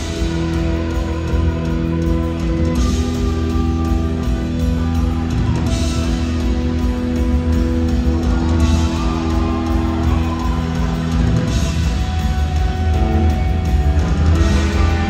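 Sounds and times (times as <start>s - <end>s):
distorted electric guitar: 0.0s - 15.0s
punk rock band playing: 0.0s - 15.0s.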